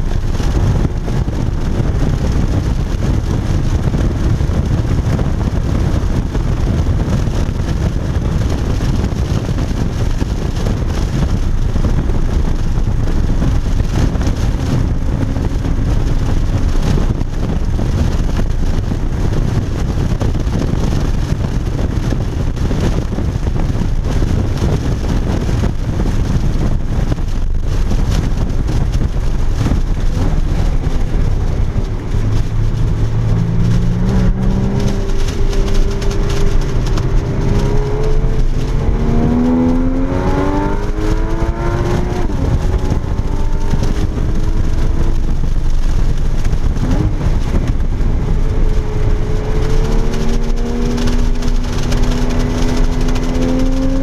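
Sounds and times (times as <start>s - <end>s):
car engine running: 0.0s - 54.0s
road and wind noise: 0.0s - 54.0s.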